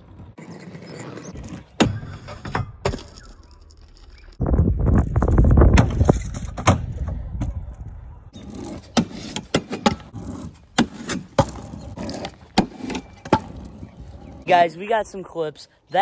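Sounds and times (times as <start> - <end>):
scooter wheels rolling on asphalt: 0.0 - 4.4, 5.0 - 14.5.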